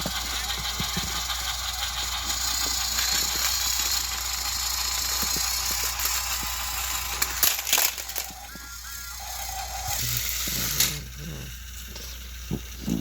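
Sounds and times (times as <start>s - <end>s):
toy train motors whirring: 0.0s - 13.0s.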